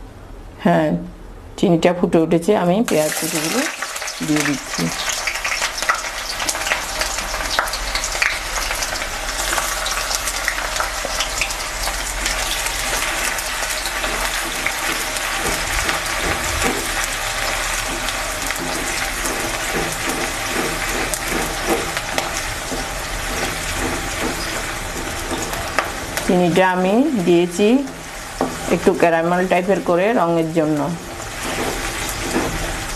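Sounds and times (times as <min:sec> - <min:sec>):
onions sizzling in hot oil: 0:02.9 - 0:32.9.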